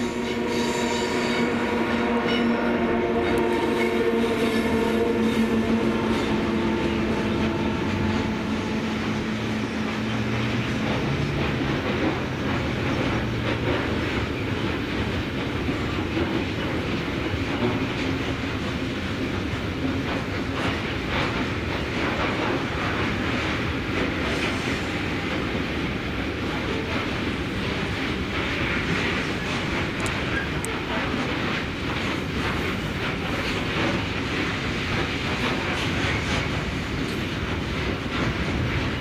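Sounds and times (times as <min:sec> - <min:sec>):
train wheels clattering on rails: 0:00.0 - 0:39.0.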